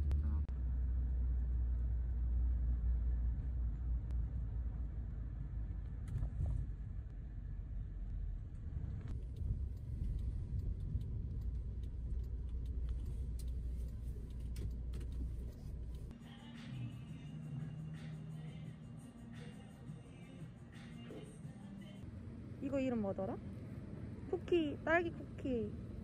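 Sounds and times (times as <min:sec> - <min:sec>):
road noise: 0:00.0 - 0:16.2, 0:21.2 - 0:26.0
vehicle engine rumble: 0:00.0 - 0:26.0.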